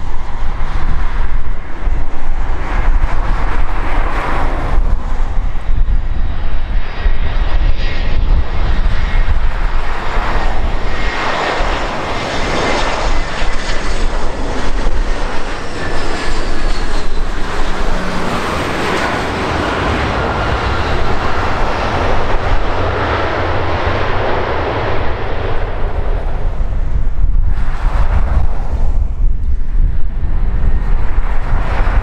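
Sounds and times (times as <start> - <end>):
jet airliner engines roaring: 0.0 - 32.0.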